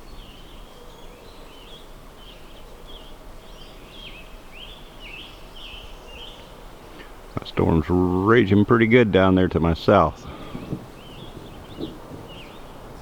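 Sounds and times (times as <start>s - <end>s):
outdoor background hiss: 0.0s - 13.0s
songbird chirping and warbling: 0.0s - 13.0s.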